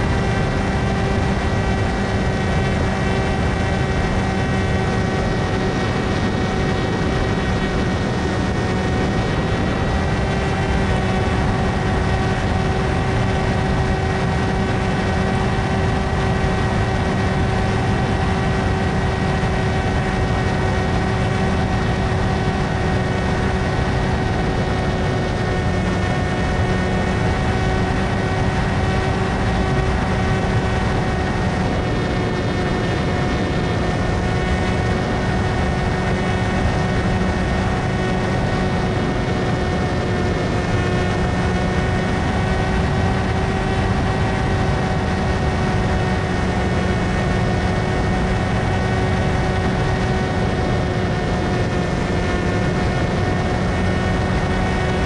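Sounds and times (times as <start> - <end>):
propeller whine: 0.0 - 55.0
wind rush: 0.0 - 55.0.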